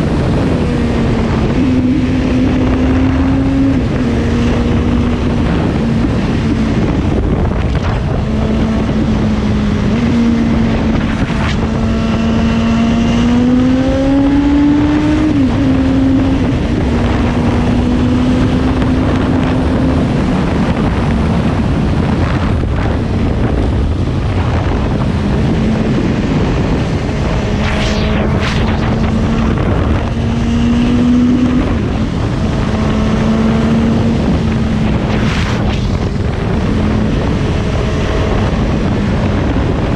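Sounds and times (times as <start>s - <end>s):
wind rushing: 0.0s - 39.9s.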